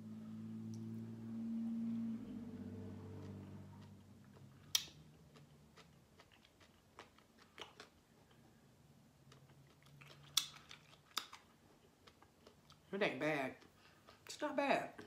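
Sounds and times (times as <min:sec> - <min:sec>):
faint chewing: 0:01.8 - 0:15.0.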